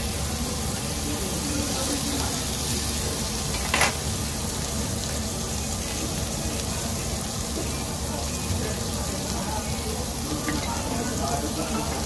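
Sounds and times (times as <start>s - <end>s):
meat sizzling on grill pan: 0.0s - 12.0s.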